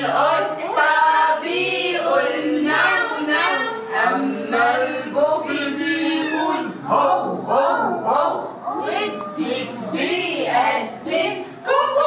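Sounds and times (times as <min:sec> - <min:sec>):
children and women singing: 0:00.0 - 0:12.0.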